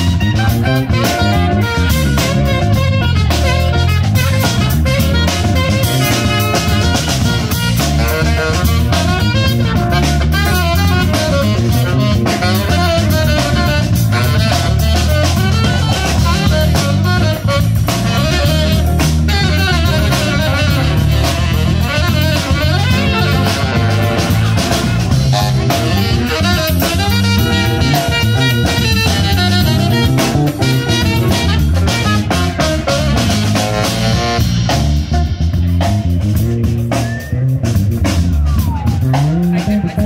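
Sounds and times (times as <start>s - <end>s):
drum kit: 0.0s - 40.0s
electric bass guitar: 0.0s - 40.0s
saxophone: 0.0s - 40.0s.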